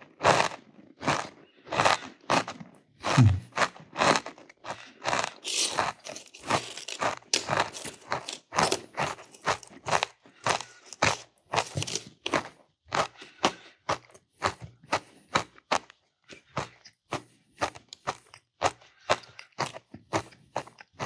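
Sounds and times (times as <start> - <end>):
person chewing crunchy food: 2.3 - 15.1, 16.3 - 21.0.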